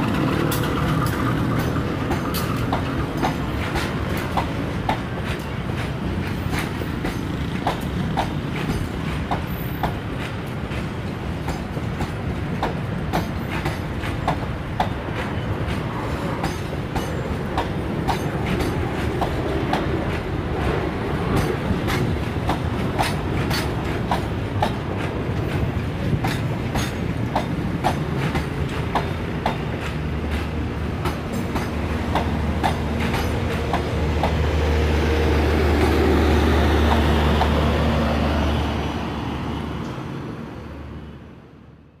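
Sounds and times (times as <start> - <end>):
train wheels clicking over joints: 0.0 - 38.7
train rumble: 0.0 - 42.0.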